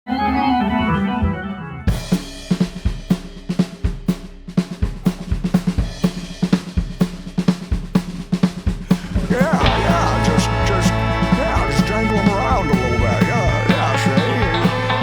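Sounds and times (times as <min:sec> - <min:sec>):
rock drum kit beat: 0:01.9 - 0:15.0.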